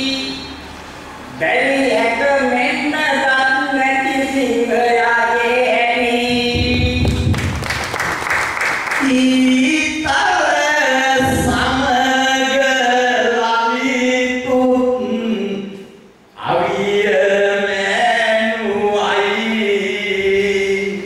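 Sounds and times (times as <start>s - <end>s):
man singing through a microphone: 0.0s - 0.6s, 1.3s - 7.4s, 9.0s - 21.0s.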